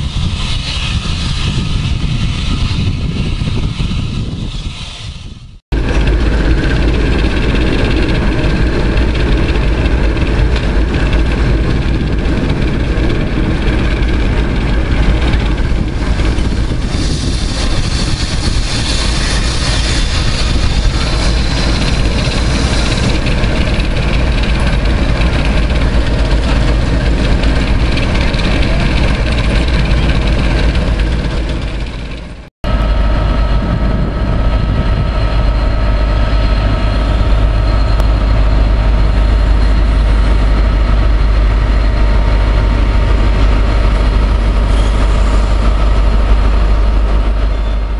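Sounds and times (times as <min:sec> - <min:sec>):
train engine rumble: 0:00.0 - 0:47.9
engine hum with held tones: 0:05.7 - 0:47.9.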